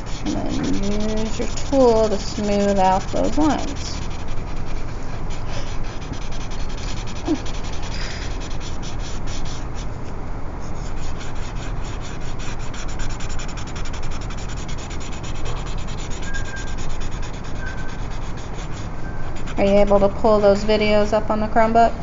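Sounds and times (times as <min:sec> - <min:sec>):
blending stump rubbing on paper: 0:00.0 - 0:09.9, 0:10.7 - 0:20.4.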